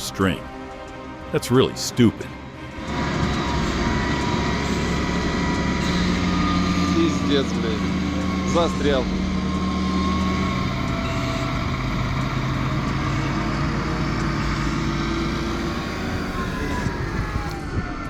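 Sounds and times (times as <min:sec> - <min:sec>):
heavy vehicle engine revving: 0:02.6 - 0:17.8.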